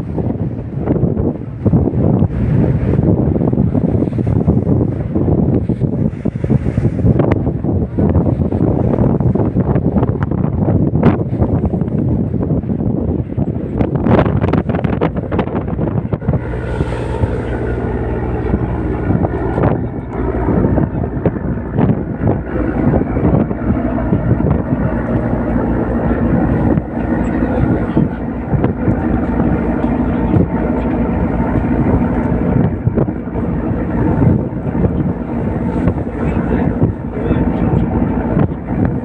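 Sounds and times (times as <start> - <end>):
boat engine humming: 0.0 - 39.0
wind buffeting microphone: 0.0 - 39.0.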